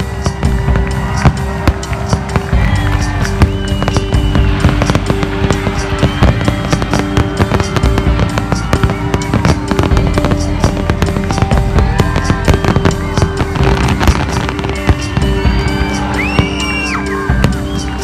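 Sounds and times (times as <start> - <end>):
fireworks bangs and crackles: 0.0 - 18.0
music playing: 0.0 - 18.0.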